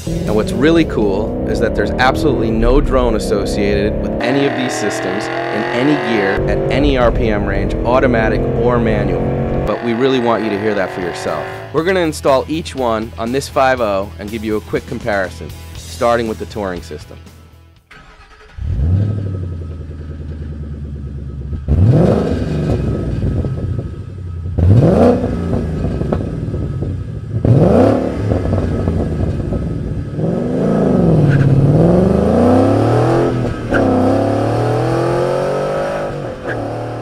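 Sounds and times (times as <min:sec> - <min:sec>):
car engine revving: 0:00.0 - 0:12.4, 0:17.9 - 0:37.0.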